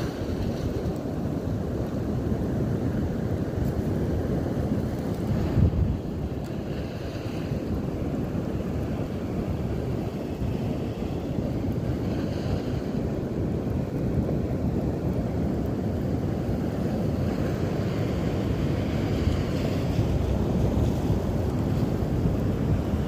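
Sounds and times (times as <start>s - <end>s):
surf washing: 0.0s - 23.0s
wind buffeting microphone: 0.0s - 23.0s.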